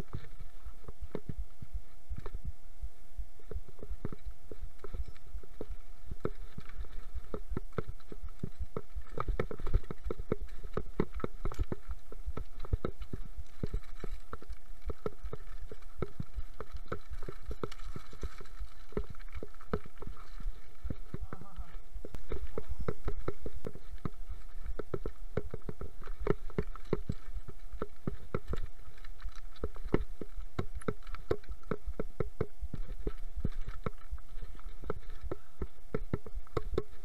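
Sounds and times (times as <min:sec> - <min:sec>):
faint steady whine: 0:00.0 - 0:37.0
bike rattling over rocks: 0:03.6 - 0:37.0.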